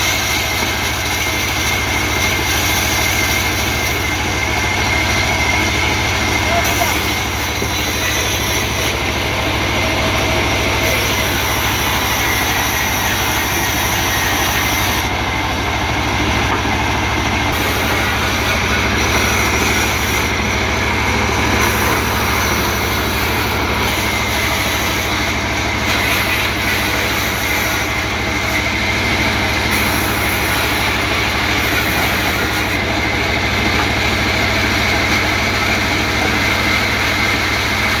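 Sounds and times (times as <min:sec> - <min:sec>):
sawmill machinery drone: 0:00.0 - 0:38.0.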